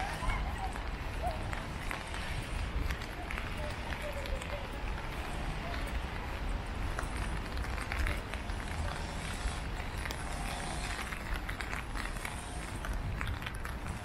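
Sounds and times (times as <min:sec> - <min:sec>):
footsteps on pavement: 0:00.0 - 0:14.0
low urban rumble: 0:00.0 - 0:14.0.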